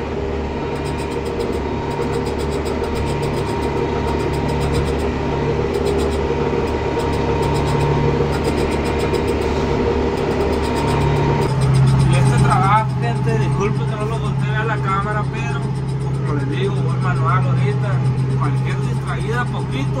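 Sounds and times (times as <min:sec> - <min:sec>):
tractor engine under load: 0:00.0 - 0:20.0.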